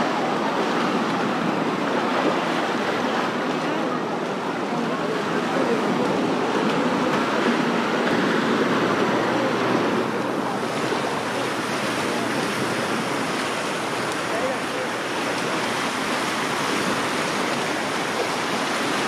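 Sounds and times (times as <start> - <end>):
chatter of many people: 0.0 - 19.0
small waves breaking on sand: 0.0 - 19.0.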